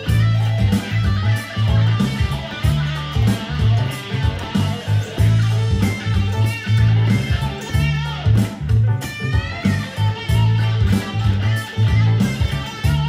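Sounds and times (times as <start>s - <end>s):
electric guitar funk riff: 0.0s - 13.0s.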